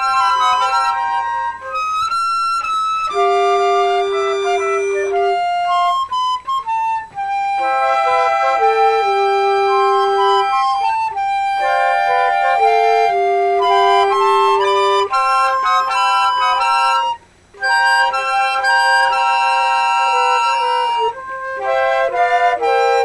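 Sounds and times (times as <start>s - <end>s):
flutes playing in harmony: 0.0s - 23.0s.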